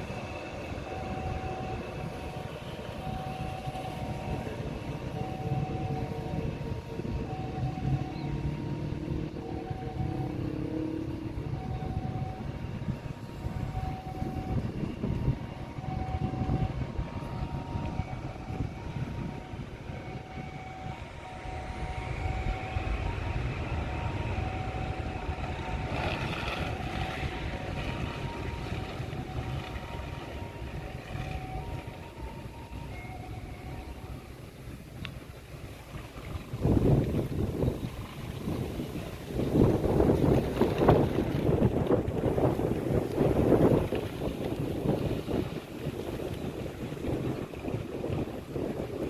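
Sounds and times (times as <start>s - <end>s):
jet engines rumbling: 0.0s - 49.0s
wind rumble on microphone: 0.0s - 49.0s.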